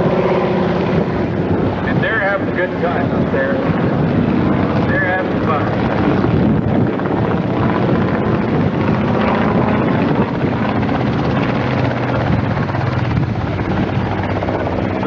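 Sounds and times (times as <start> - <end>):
propeller airplanes flying overhead: 0.0 - 15.0.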